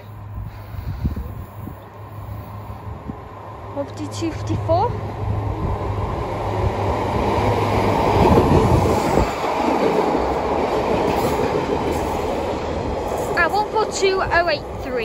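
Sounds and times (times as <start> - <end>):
diesel train engine hum: 0.0 - 15.0
wheel and rail noise: 0.0 - 15.0.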